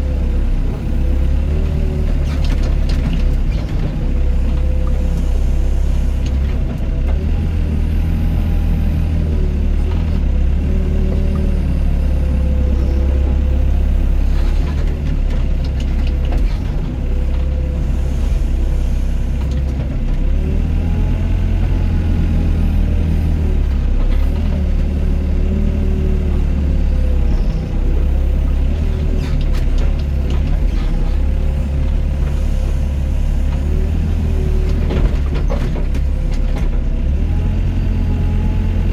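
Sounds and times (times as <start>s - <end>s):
excavator diesel engine working: 0.0s - 38.9s.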